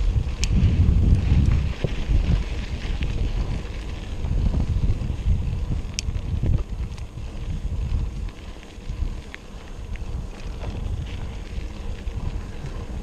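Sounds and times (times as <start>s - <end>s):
faint ticks: 0.0s - 13.0s
wind buffeting microphone: 0.0s - 13.0s.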